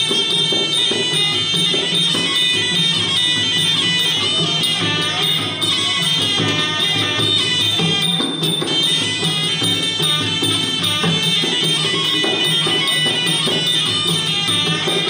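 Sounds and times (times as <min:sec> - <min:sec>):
drums beating: 0:00.0 - 0:15.0
small cymbals: 0:00.0 - 0:15.0.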